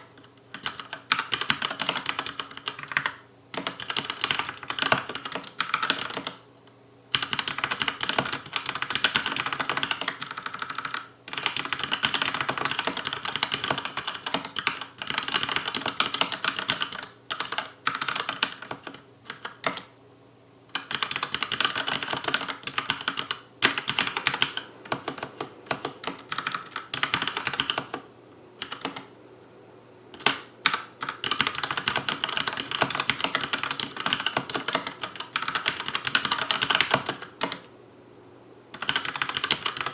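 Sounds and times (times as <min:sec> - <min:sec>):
mechanical keyboard typing: 0:00.0 - 0:06.4, 0:07.1 - 0:19.9, 0:20.7 - 0:28.0, 0:28.6 - 0:29.1, 0:30.2 - 0:37.7, 0:38.8 - 0:39.9.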